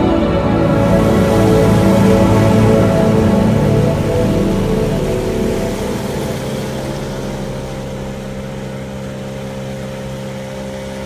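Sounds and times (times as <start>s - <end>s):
outboard motor running: 0.1s - 11.0s.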